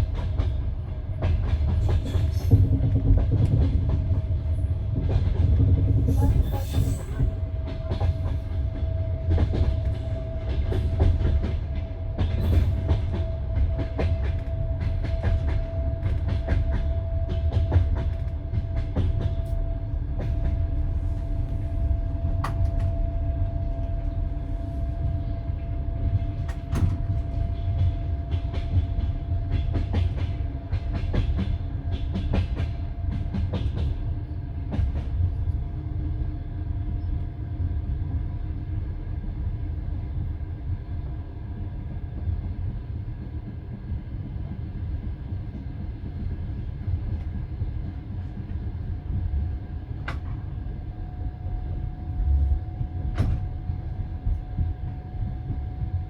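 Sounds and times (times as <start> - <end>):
train carriage rumbling: 0.0 - 56.0.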